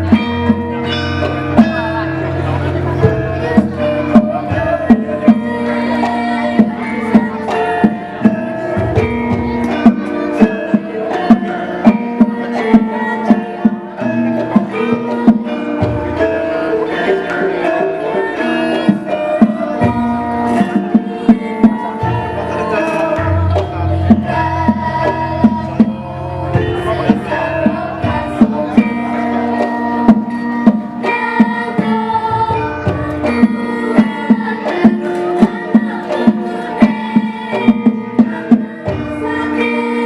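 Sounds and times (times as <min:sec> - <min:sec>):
ringing metallophone tones: 0:00.0 - 0:40.0.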